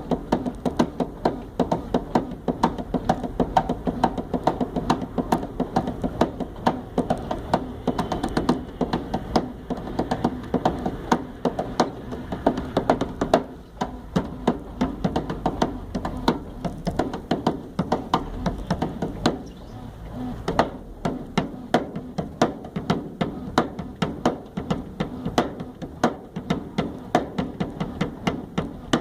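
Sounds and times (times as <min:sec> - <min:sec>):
rhythmic percussion knocks and taps: 0:00.0 - 0:29.0
washing machine humming: 0:00.0 - 0:29.0.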